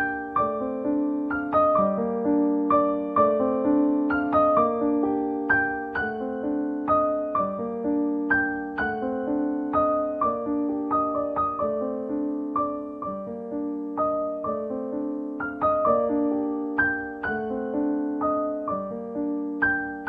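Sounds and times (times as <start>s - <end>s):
calm piano music: 0.0s - 20.0s.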